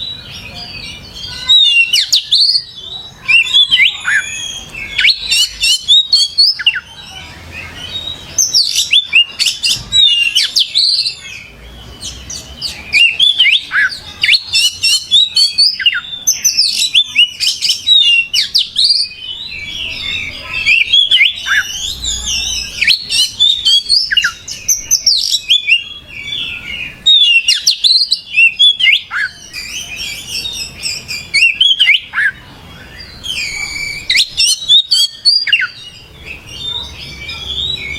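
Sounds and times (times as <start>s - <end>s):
songbird whistling and chirping: 0.0s - 37.9s.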